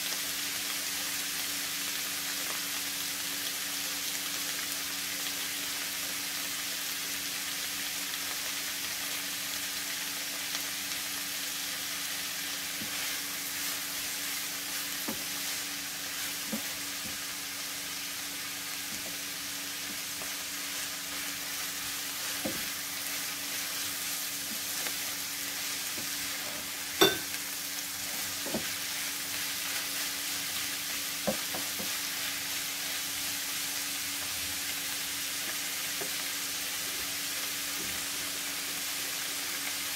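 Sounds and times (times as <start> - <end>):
vegetables sizzling in a frying pan: 0.0 - 39.9.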